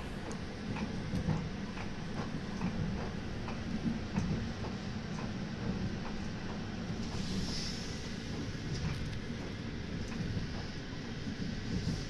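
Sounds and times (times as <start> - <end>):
low hum inside train carriage: 0.0 - 12.0.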